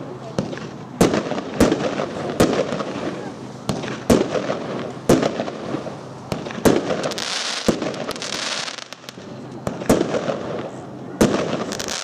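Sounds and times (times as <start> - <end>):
fireworks bangs echoing: 0.3 - 12.0
firework hiss: 0.4 - 12.0.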